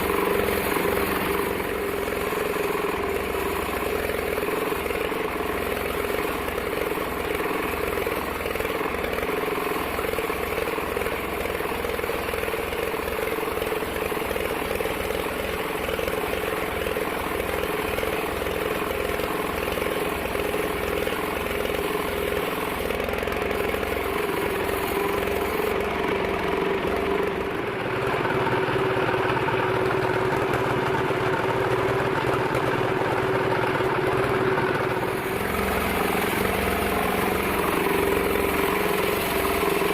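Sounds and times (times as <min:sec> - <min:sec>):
bandsaw running with hum: 0:00.0 - 0:39.9.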